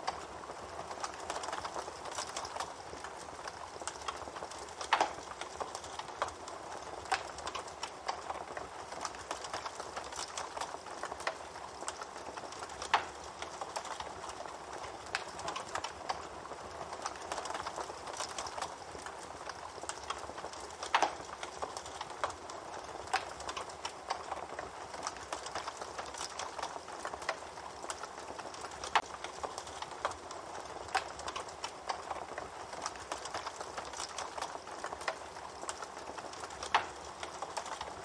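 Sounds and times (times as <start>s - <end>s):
campfire crackling: 0.0s - 38.0s
fire popping and snapping: 0.0s - 38.0s.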